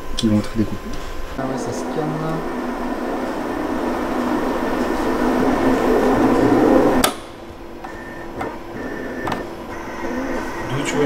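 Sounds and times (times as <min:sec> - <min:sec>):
cutting plotter motor whir: 0:01.4 - 0:11.0.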